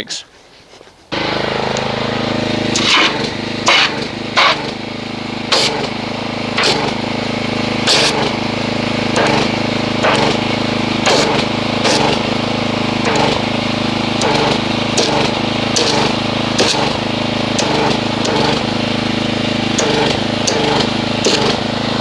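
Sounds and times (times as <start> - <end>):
pressure washer running: 1.1 - 22.0.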